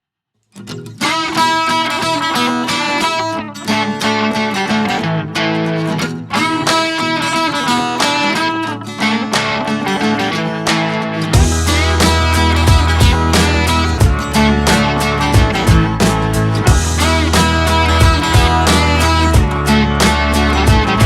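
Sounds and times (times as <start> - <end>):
guitar background music: 0.5 - 21.0.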